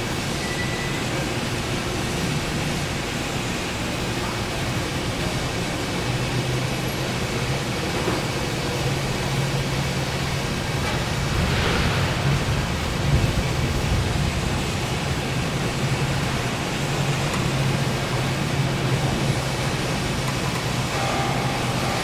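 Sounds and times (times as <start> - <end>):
low machinery hum: 0.0 - 22.0
machinery rushing noise: 0.0 - 22.0.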